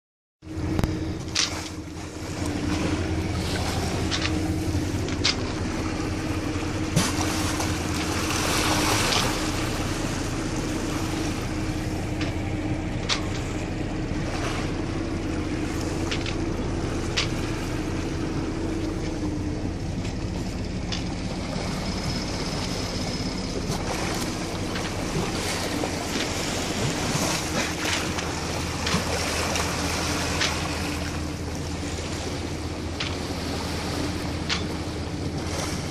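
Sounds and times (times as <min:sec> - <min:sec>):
boat engine running: 0:00.4 - 0:35.9
water rushing along hull: 0:00.4 - 0:35.9.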